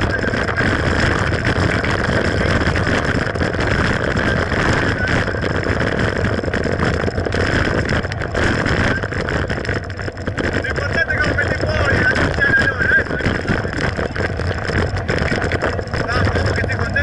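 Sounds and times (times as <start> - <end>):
bike rattling and knocking: 0.0 - 17.0
wind and tyre rolling noise: 0.0 - 17.0.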